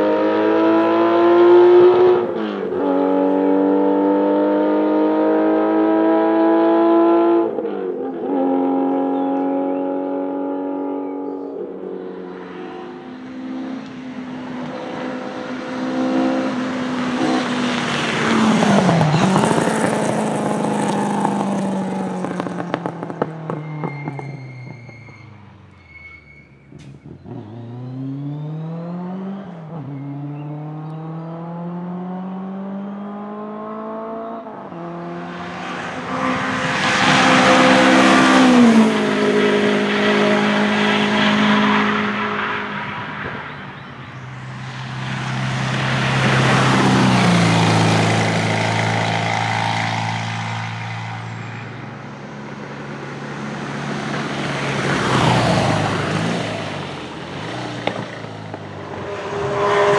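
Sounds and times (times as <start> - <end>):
race car engines accelerating: 0.0 - 25.7, 26.6 - 59.9
race cars passing by: 0.0 - 25.8, 26.7 - 59.9.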